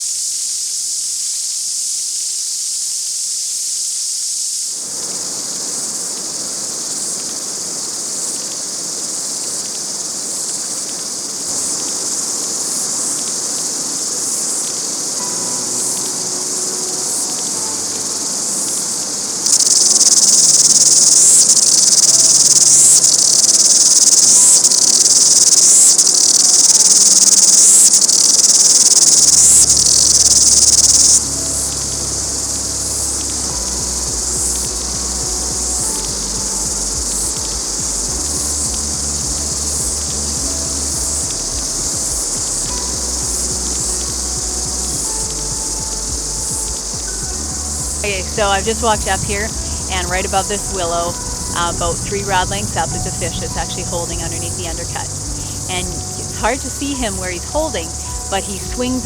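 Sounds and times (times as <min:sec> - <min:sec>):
cicadas buzzing: 0:00.0 - 0:59.0.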